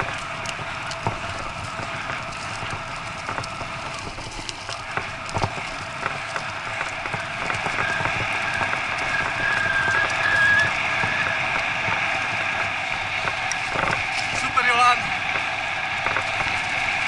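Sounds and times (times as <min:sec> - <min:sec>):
bike knocks and rattles: 0:00.0 - 0:17.0
bike tyres rushing over leaves: 0:00.0 - 0:17.0.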